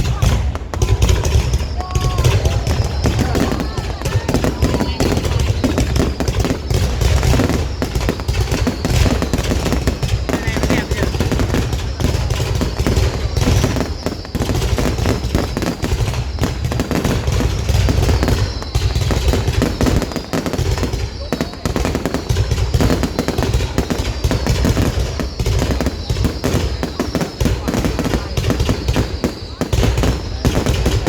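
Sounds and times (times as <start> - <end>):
descending firework whistles: 0.0 - 31.0
fireworks crackling bangs: 0.0 - 31.0.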